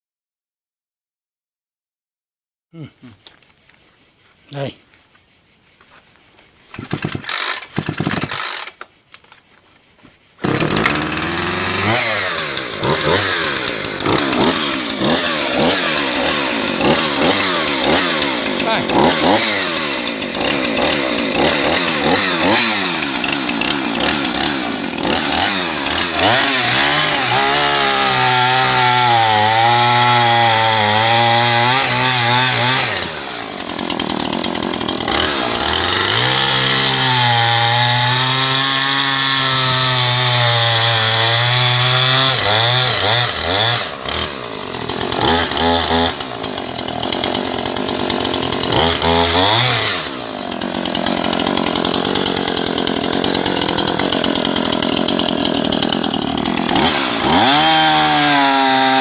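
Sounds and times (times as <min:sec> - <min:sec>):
chainsaw engine revving: 0:06.7 - 0:08.8, 0:10.4 - 0:59.0.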